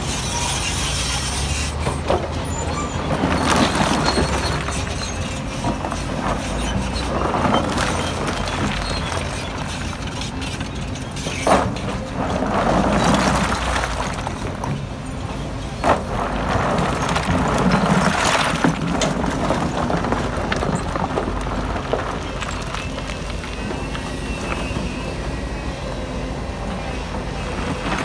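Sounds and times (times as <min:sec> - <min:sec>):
diesel machinery running: 0:00.0 - 0:28.0.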